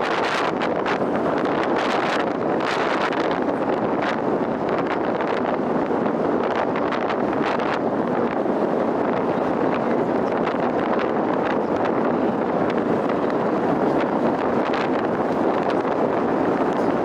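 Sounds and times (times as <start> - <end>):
constant rush: 0.0 - 17.0
wind buffeting microphone: 0.0 - 17.0.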